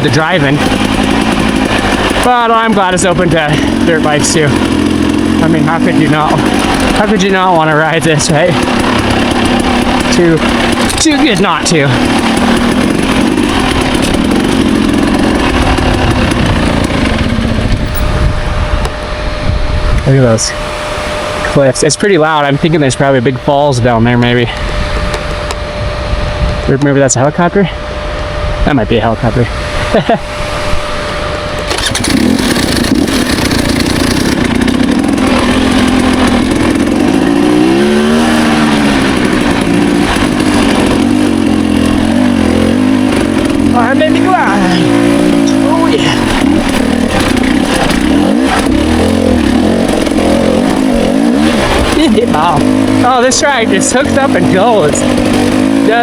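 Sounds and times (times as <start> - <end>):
rushing noise: 0.0 - 21.8, 29.3 - 56.0
dirt bike engine running: 0.0 - 56.0.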